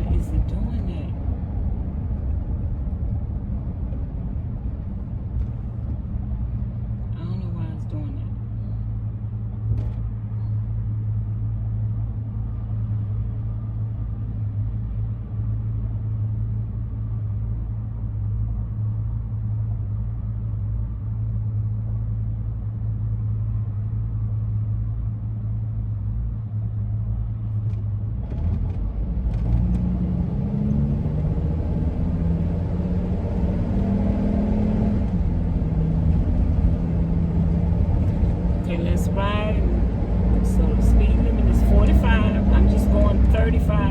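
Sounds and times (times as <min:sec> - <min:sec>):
van engine drone: 0:00.0 - 0:43.9.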